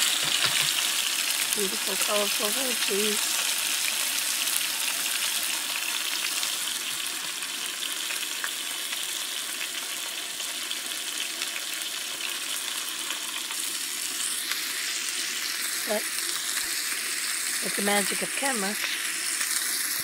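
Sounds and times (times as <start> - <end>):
meat sizzling in a skillet: 0.0 - 20.0.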